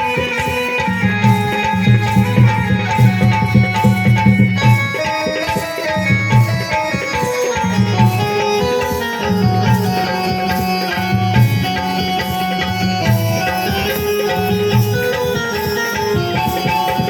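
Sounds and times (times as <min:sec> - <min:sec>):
plucked string melody: 0:00.0 - 0:17.0
tabla drumming: 0:00.0 - 0:17.0.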